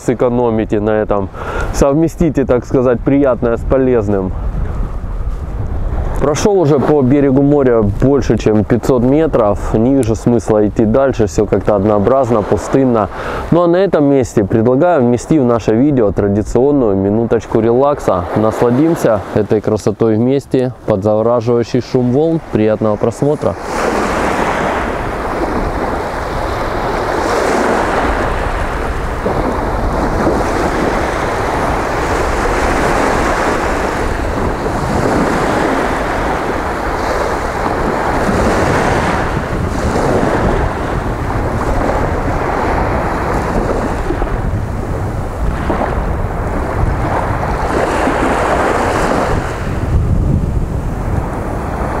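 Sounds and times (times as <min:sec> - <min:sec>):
wind rumbling on microphone: 0:00.0 - 0:52.0
small waves breaking on beach: 0:03.1 - 0:52.0.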